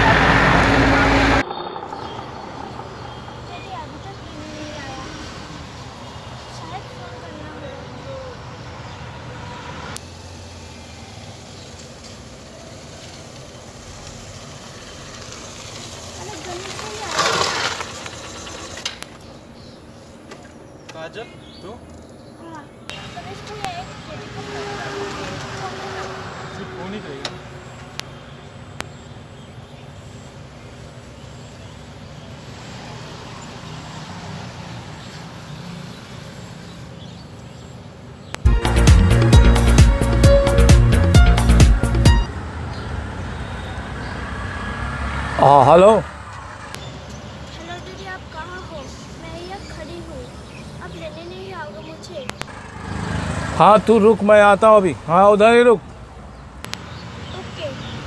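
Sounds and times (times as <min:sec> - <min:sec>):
outdoor noise: 0:00.0 - 0:58.0
vehicle engine humming: 0:00.0 - 0:58.0.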